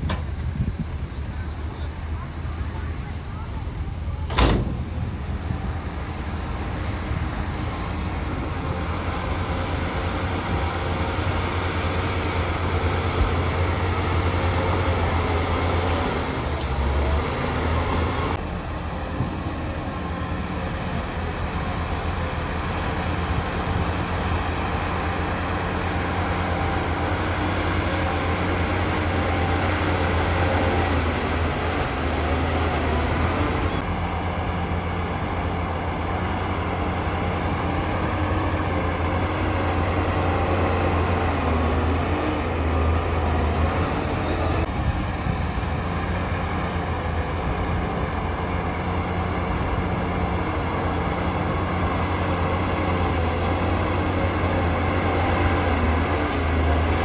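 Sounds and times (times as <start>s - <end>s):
heavy diesel machinery rumbling: 0.0s - 57.0s.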